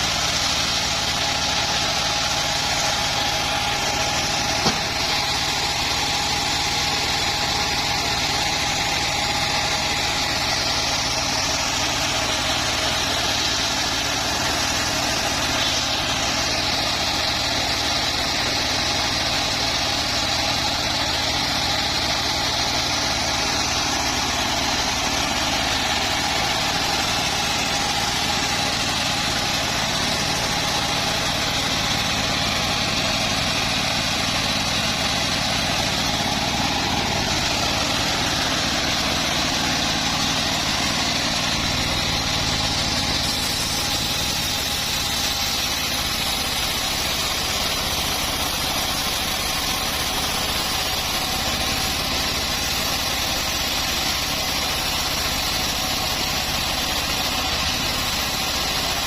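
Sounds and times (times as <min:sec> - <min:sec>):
bandsaw sawmill running: 0:00.0 - 0:59.0.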